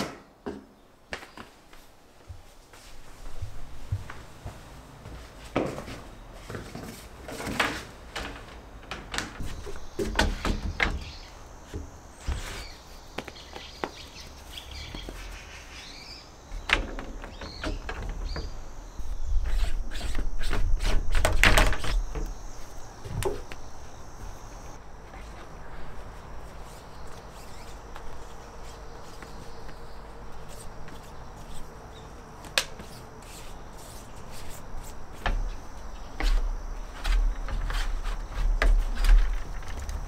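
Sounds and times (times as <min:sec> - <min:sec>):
birds chirping faintly: 0:00.6 - 0:02.3, 0:08.1 - 0:40.0.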